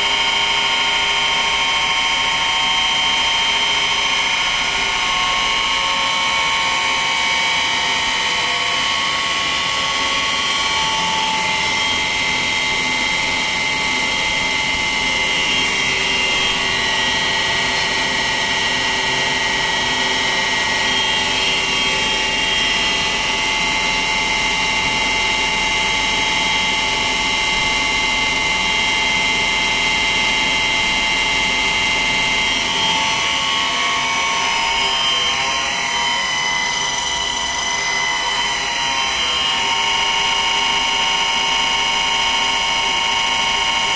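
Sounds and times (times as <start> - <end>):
electric motor whine: 0.0 - 43.9.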